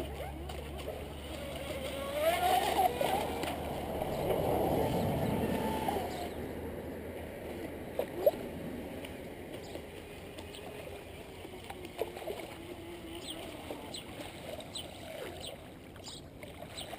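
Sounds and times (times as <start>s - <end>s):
thin wavering motor whine: 0.0s - 15.8s.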